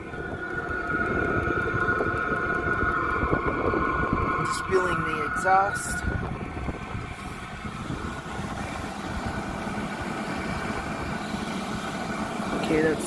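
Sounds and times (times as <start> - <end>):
faint steady whine: 0.0 - 13.0
heater exhaust rumble: 0.0 - 13.0.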